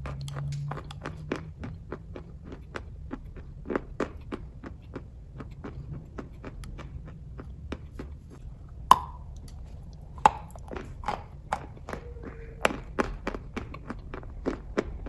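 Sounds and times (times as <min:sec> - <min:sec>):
wet mouth clicks and smacks: 0:00.0 - 0:15.0.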